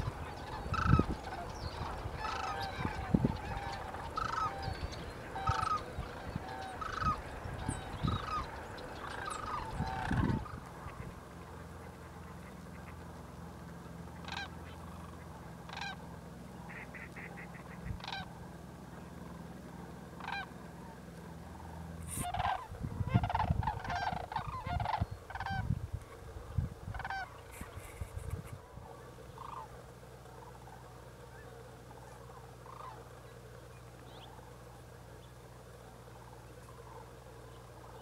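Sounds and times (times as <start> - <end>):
cranes calling: 0.0 - 38.0
low rumble on microphone: 0.0 - 38.0.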